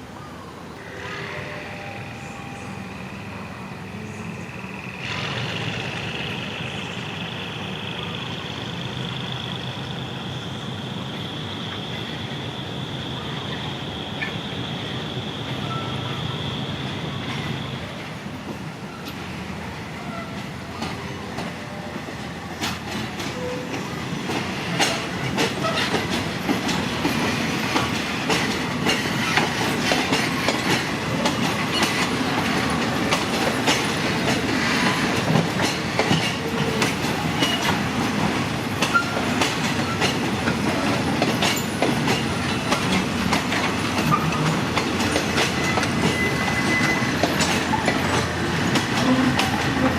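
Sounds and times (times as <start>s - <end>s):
train wheels clacking over rails: 3.0s - 19.4s, 20.1s - 49.9s.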